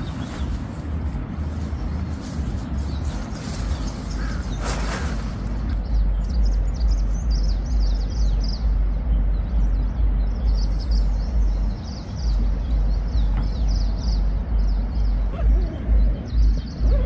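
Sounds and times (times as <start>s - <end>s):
small birds chirping: 0.0s - 17.0s
wind on microphone: 0.0s - 17.0s.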